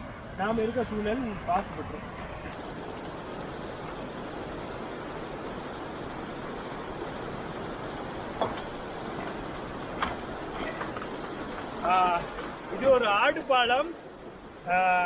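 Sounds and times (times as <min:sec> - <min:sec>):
water rushing: 0:01.5 - 0:15.0.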